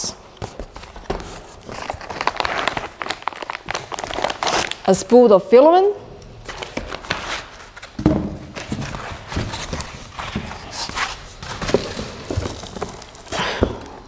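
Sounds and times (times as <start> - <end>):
packing material rustling: 0.5 - 5.2, 6.4 - 14.0.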